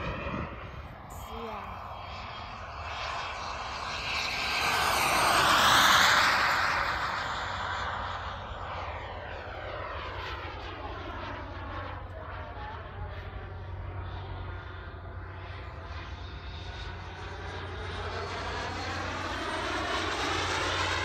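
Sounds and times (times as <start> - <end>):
model jet engine flying past: 0.0 - 21.0.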